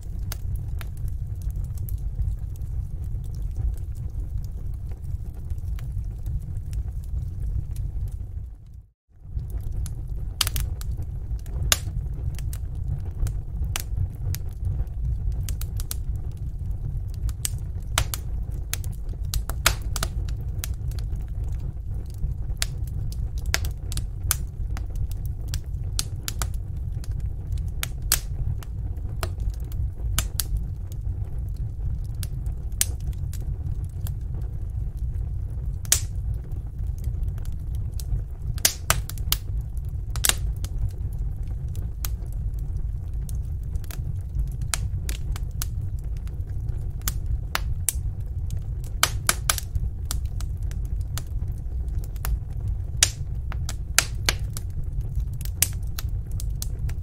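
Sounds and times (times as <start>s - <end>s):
fire popping and crackling: 0.0s - 57.0s
low rumble of flames: 0.0s - 57.0s.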